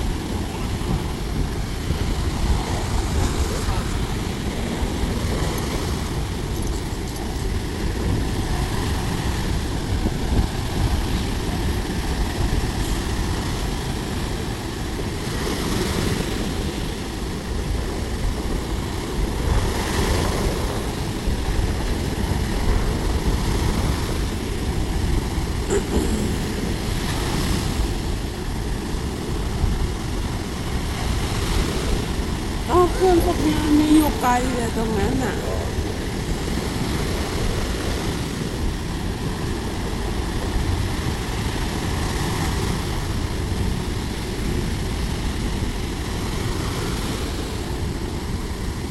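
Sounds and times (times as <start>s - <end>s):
sea waves washing onto beach: 0.0s - 48.9s
wind rumble on microphone: 0.0s - 48.9s.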